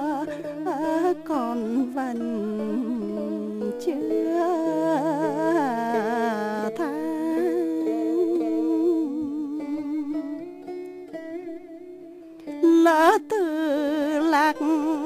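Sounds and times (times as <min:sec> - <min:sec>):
sustained instrumental accompaniment: 0:00.0 - 0:15.0.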